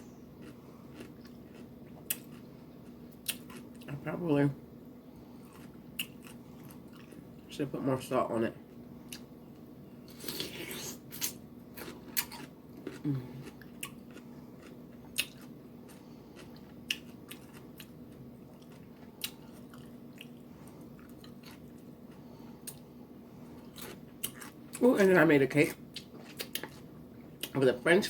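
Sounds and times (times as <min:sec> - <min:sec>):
chewing food with crunches: 0:00.2 - 0:04.0, 0:05.2 - 0:07.5, 0:08.7 - 0:27.7.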